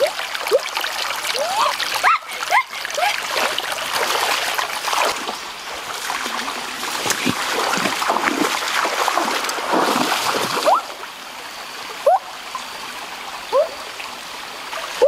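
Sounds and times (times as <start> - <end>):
water splashing from wading: 0.0 - 12.8
stream flowing: 0.0 - 15.0.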